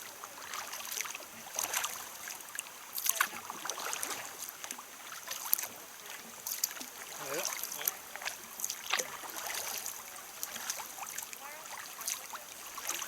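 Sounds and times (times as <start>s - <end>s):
paddle strokes splashing water: 0.0s - 13.0s
water dripping: 0.0s - 13.0s.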